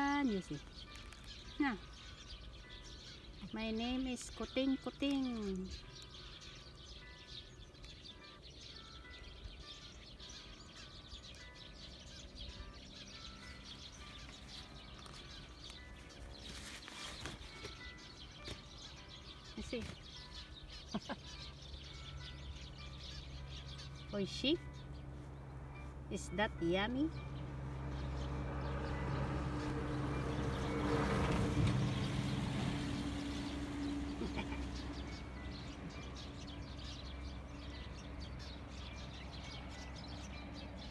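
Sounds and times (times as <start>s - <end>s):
vehicle engine humming: 0.0s - 40.9s.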